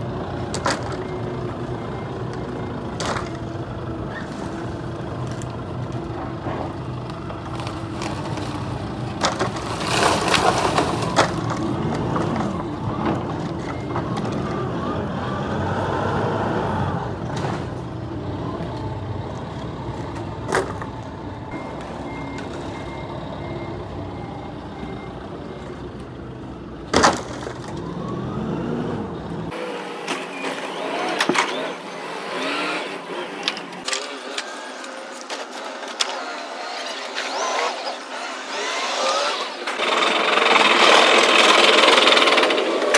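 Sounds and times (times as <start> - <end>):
truck engine running: 0.0 - 42.9.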